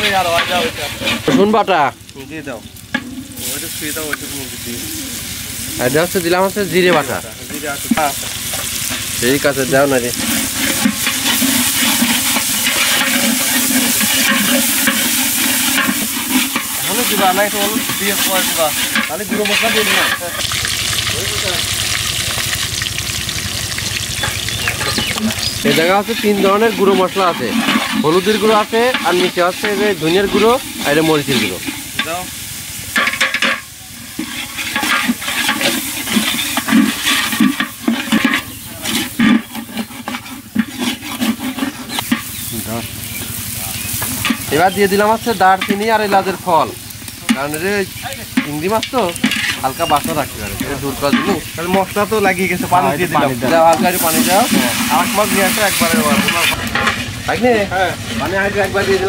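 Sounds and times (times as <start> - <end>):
spoon scraping a pan: 0.0 - 1.6, 6.9 - 21.0, 21.6 - 32.2, 32.9 - 46.1, 47.0 - 57.3, 57.9 - 59.0
onions sizzling in hot oil: 0.0 - 59.0.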